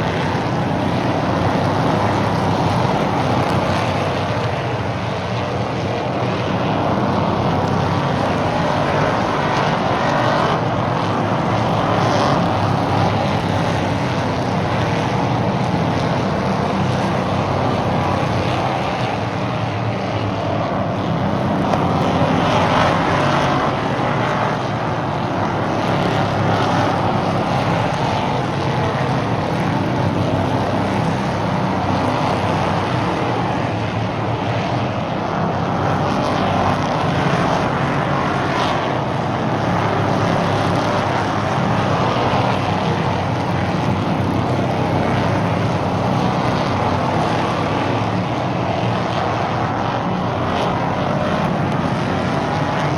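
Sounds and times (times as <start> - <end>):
race car engines droning: 0.0 - 52.9.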